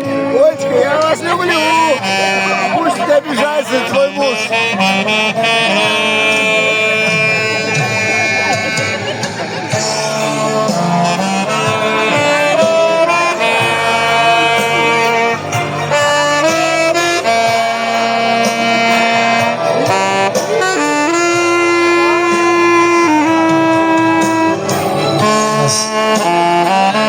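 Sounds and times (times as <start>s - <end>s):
low sustained accompaniment: 0.0s - 25.8s
saxophone melody: 0.0s - 27.0s.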